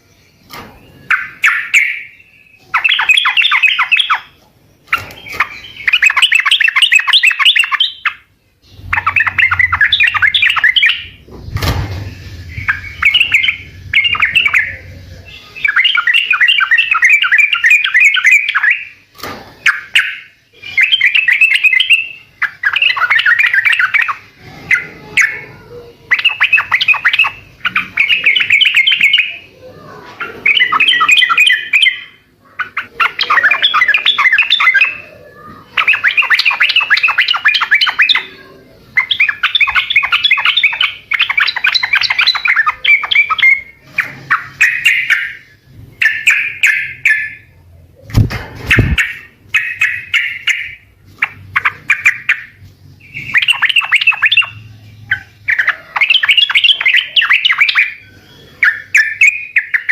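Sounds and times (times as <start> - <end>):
bird chattering song: 0.0 - 59.9.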